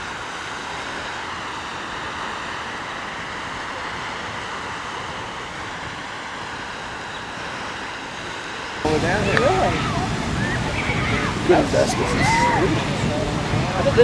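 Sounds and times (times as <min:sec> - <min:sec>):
geyser water jet hissing: 0:00.0 - 0:14.0.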